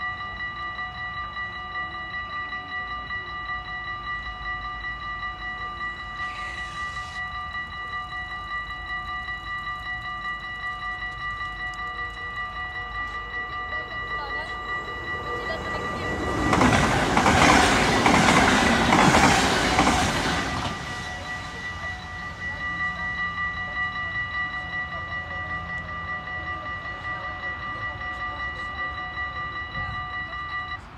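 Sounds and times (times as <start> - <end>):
level crossing bell ringing: 0.0 - 30.9
train wheels on rails: 4.2 - 30.9.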